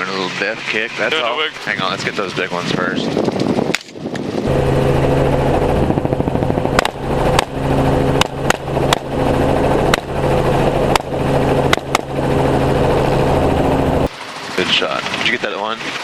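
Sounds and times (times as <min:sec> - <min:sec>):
helicopter engine and rotor hum: 0:00.0 - 0:16.0.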